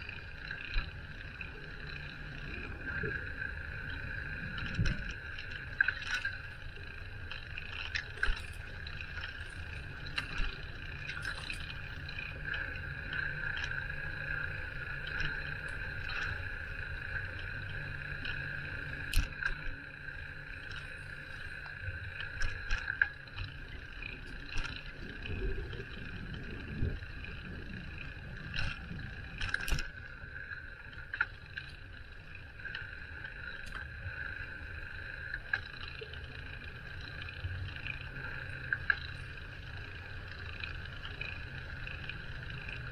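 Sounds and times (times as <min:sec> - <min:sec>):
bicycle tyres rumbling: 0:00.0 - 0:42.9
steady high whine: 0:00.0 - 0:42.9.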